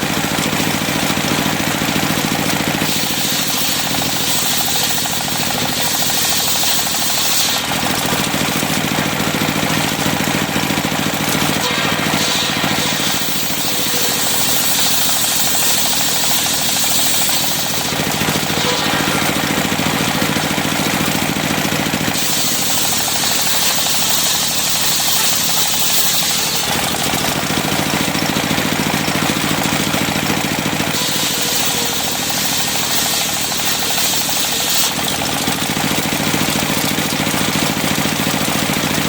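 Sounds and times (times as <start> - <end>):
saw blade ripping timber: 0.0 - 37.2
sawmill engine knocking: 0.0 - 39.0.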